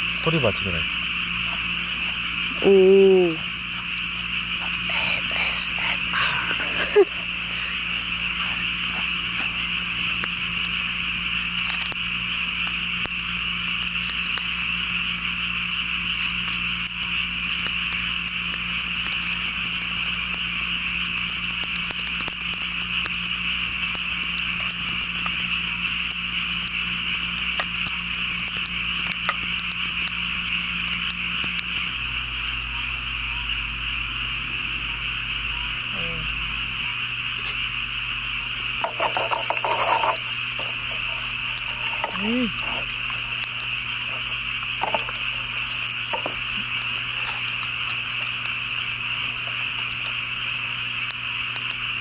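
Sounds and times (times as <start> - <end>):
frogs calling: 0.0 - 52.0
faint clicks and crackles: 3.4 - 33.8, 38.6 - 52.0.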